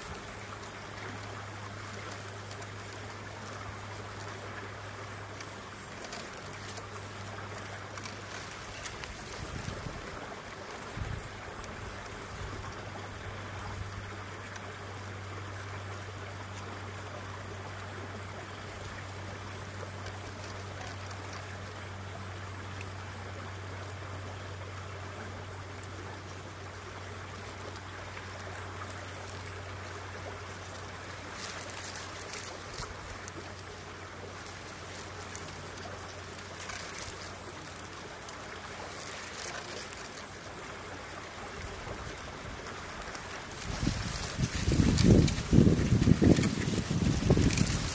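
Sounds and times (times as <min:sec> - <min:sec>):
low steady hum: 0:00.0 - 0:47.9
water rushing: 0:00.0 - 0:47.9.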